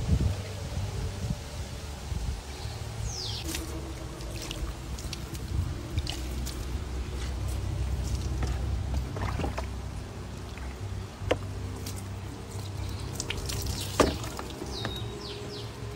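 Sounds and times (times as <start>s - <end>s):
steady low hum: 0.0s - 15.9s
water splashing and trickling: 0.0s - 15.9s.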